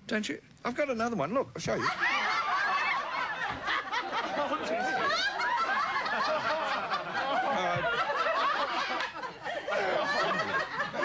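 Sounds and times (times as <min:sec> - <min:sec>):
studio audience laughing: 0:01.8 - 0:11.0.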